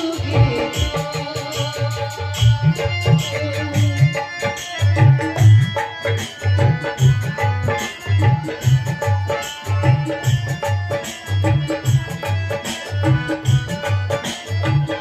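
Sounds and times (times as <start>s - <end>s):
hand drums playing: 0.0s - 15.0s
harmonium melody: 0.0s - 15.0s.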